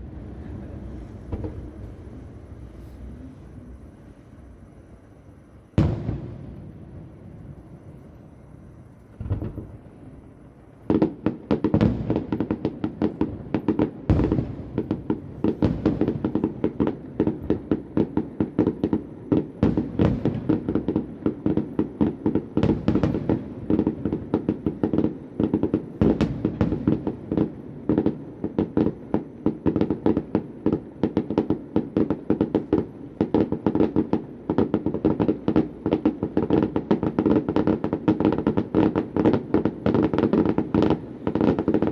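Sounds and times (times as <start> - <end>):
distant fireworks booms and crackling: 0.0 - 41.9.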